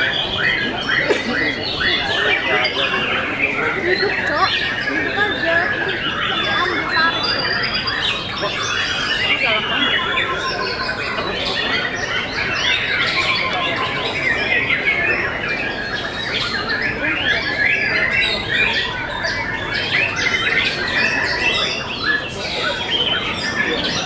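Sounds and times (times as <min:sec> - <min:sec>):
birds singing: 0:00.0 - 0:24.0.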